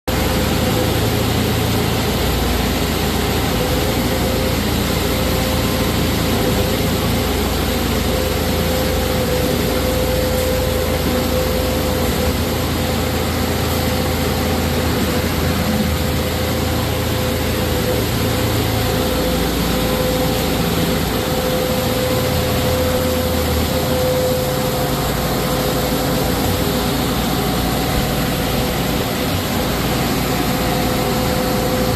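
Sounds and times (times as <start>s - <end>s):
concrete pump whining and rumbling: 0.1s - 31.9s.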